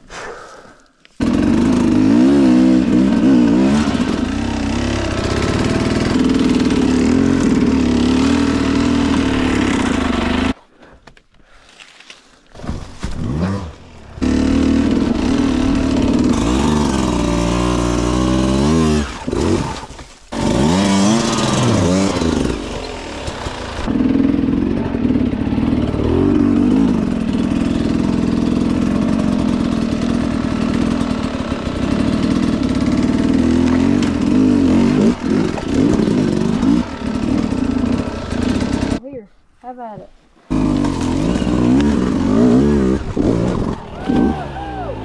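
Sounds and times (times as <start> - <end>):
dirt bike engine revving: 1.2 - 10.6, 13.2 - 39.0, 40.5 - 45.0.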